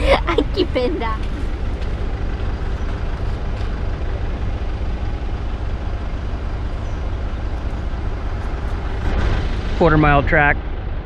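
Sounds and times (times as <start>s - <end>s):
pickup truck engine rumbling: 0.0s - 11.0s.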